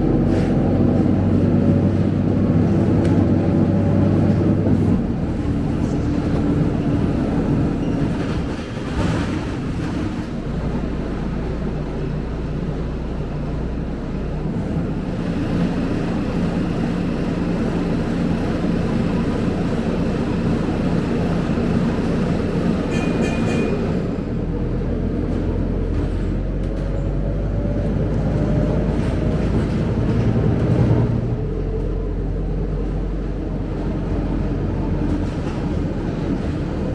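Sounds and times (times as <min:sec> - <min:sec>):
bus engine drone: 0:00.0 - 0:36.9
road noise: 0:00.0 - 0:36.9.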